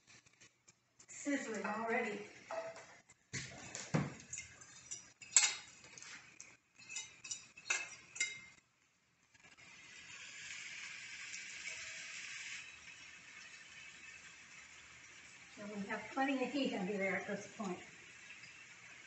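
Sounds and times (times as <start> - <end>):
apples sizzling in a pan: 0.0 - 19.0.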